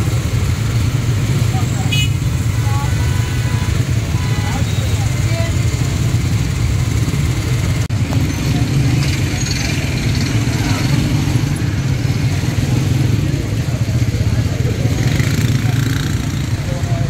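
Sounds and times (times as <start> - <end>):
motorcycle engines running: 0.0 - 17.0
faint voices: 1.2 - 17.0.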